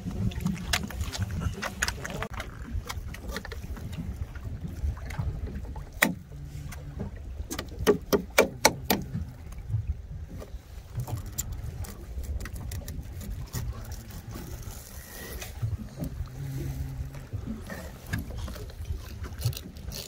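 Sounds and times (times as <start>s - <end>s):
boat hum: 0.0s - 20.0s.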